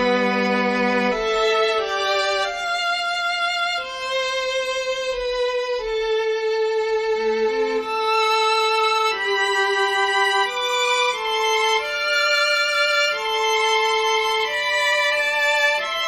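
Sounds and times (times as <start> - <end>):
string quartet playing slowly: 0.0 - 16.0.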